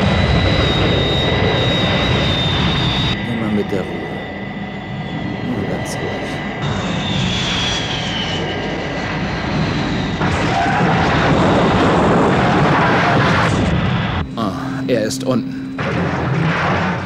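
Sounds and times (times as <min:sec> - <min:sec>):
jet engine whistle: 0:00.0 - 0:15.0
jet engine rushing roar: 0:00.0 - 0:17.0.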